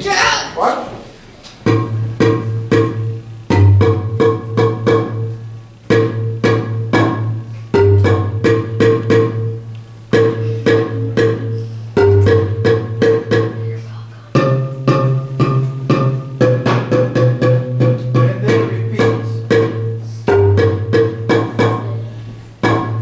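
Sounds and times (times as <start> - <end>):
bass marimba struck with mallets: 1.6 - 23.0.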